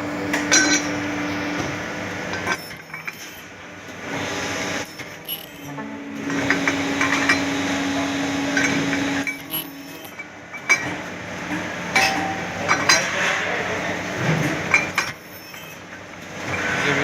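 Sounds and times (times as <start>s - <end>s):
hydraulic press machine hum: 0.0s - 17.0s.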